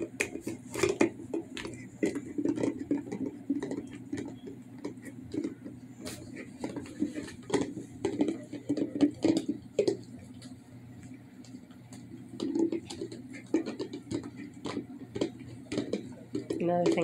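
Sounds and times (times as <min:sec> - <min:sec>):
teeth scraping on plastic: 0:00.0 - 0:10.6, 0:11.4 - 0:17.0.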